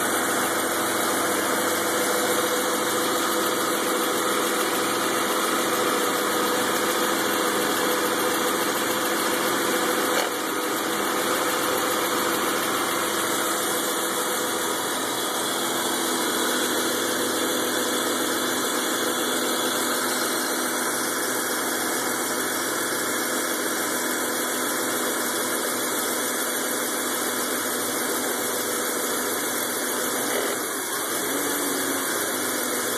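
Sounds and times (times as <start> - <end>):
car engine idling roughly: 0.0 - 32.9.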